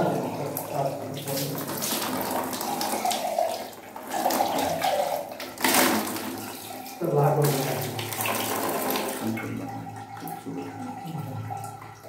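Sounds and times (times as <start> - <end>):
tap water splashing into metal pot: 0.0 - 12.0
water spilling into bucket: 0.0 - 12.0.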